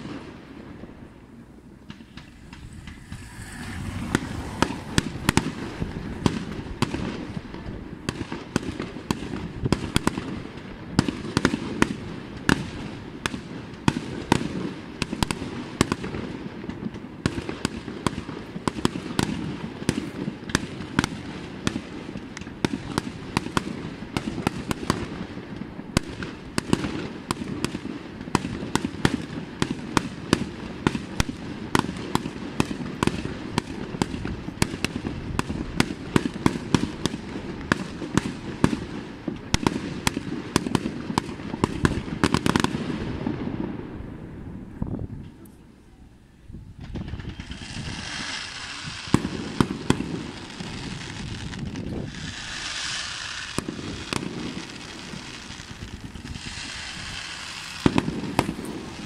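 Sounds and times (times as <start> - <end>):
fireworks bursting with bangs: 0.0 - 45.8, 46.7 - 59.0.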